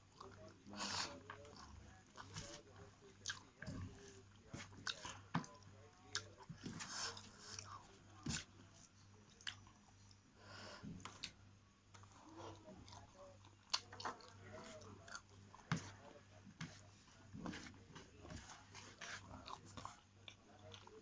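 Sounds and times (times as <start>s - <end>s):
person chewing with wet smacks: 0.1s - 10.2s, 10.9s - 21.0s.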